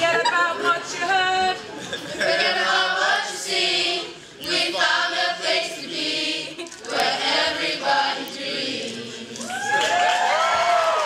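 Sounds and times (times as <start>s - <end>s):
young voices singing in choir: 0.7s - 9.7s.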